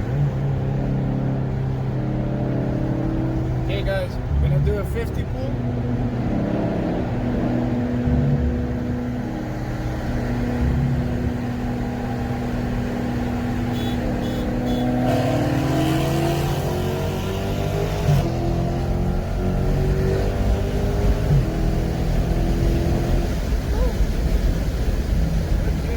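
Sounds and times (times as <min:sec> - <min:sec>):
car engine cruising: 0:00.0 - 0:25.9
engine at full throttle: 0:00.0 - 0:25.9.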